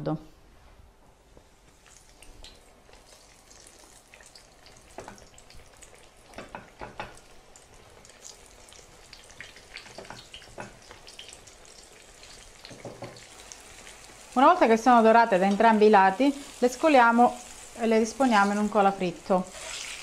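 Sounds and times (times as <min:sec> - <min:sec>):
sharp crackles of frying: 0:01.2 - 0:20.0
slices sizzling in hot oil: 0:01.6 - 0:20.0.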